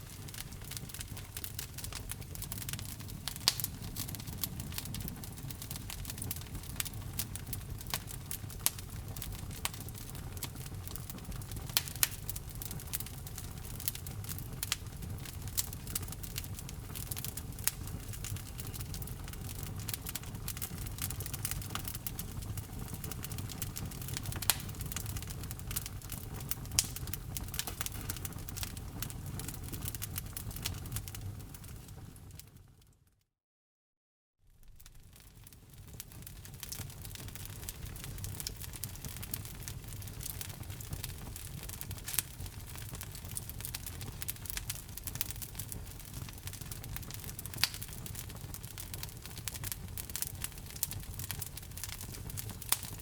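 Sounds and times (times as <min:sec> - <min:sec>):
logs crackling and popping: 0:00.0 - 0:32.4, 0:34.6 - 0:53.0
low rumble of flames: 0:00.0 - 0:32.8, 0:34.5 - 0:53.0.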